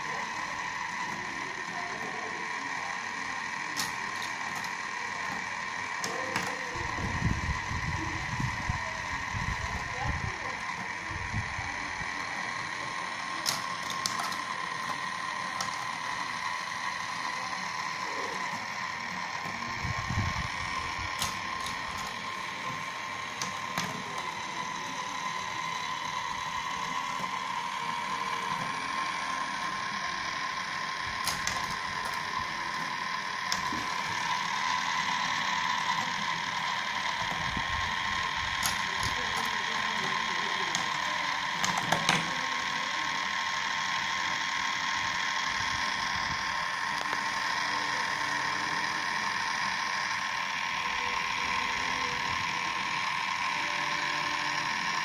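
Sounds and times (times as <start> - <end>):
marble lift whining: 0.0 - 55.0
marbles clicking on track: 3.7 - 9.9, 10.6 - 18.7, 19.4 - 55.0.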